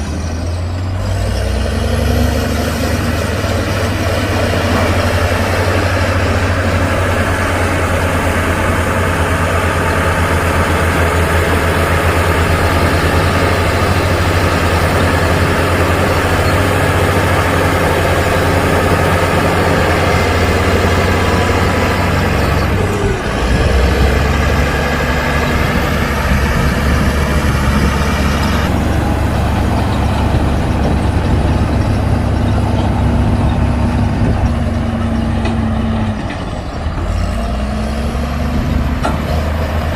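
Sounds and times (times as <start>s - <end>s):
heavy diesel machinery engines: 0.0s - 39.9s.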